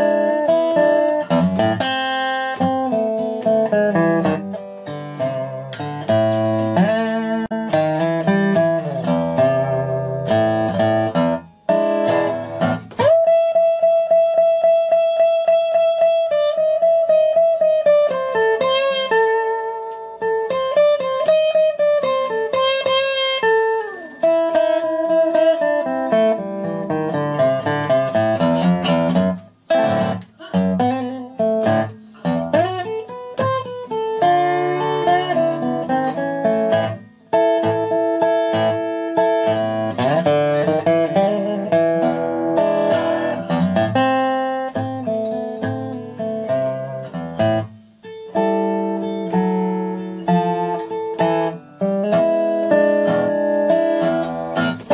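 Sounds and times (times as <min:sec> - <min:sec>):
guitar plucking melody: 0:00.0 - 0:54.9.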